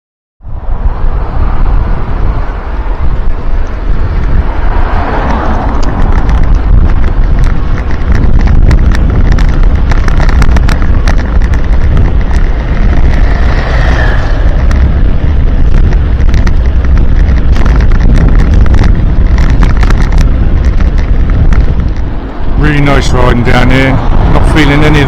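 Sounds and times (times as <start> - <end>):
wind buffeting microphone: 0.4 - 25.0.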